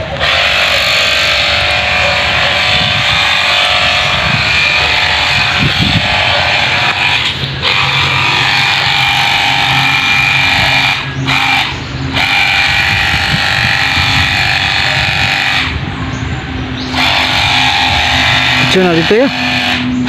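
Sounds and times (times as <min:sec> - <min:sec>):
water gun pump motor running: 0:00.0 - 0:15.9, 0:16.9 - 0:20.0.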